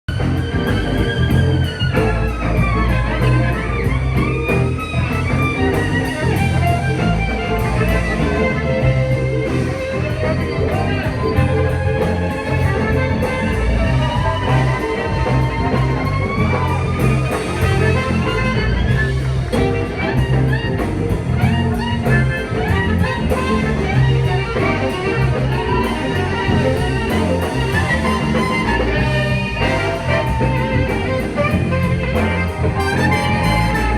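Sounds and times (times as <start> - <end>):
bass: 0.0 - 33.9
blues-rock lead guitar: 0.1 - 33.9
drums at a steady beat: 0.1 - 33.9.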